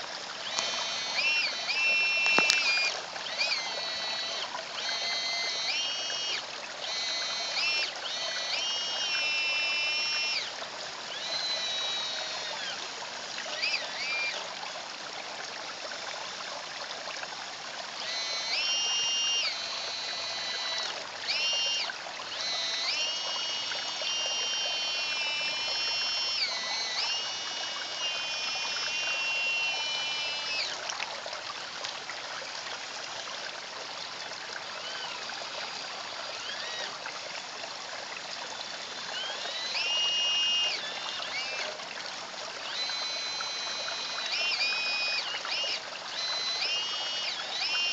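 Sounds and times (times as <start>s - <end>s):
electric motors whining: 0.0s - 16.6s, 17.8s - 31.0s, 34.1s - 47.9s
water trickling: 0.0s - 47.9s.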